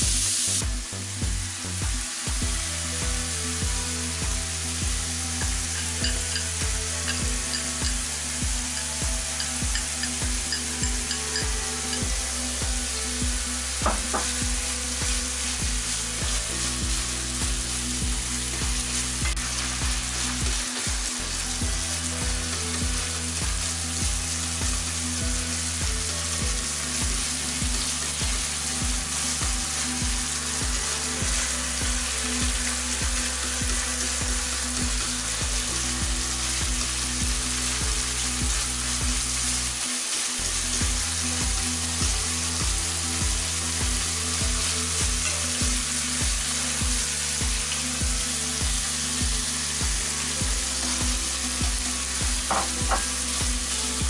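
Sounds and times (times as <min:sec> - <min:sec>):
minced pork sizzling in pan: 0:00.0 - 0:54.0.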